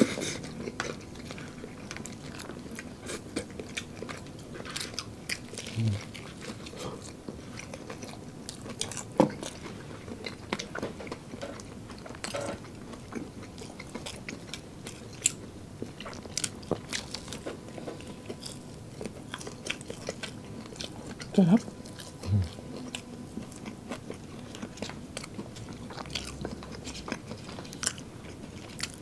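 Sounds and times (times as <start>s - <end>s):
crunchy biting and chewing: 0.0s - 29.0s.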